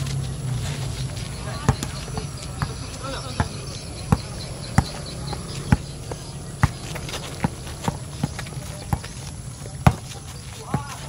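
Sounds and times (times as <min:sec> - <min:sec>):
basketball bouncing on asphalt: 0:00.0 - 0:11.0.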